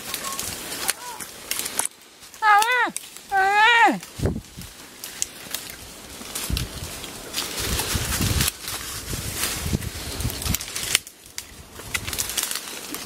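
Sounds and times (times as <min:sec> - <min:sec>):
branches rustling and scraping: 0:00.0 - 0:13.0
footsteps crunching through dry leaves: 0:00.0 - 0:13.0.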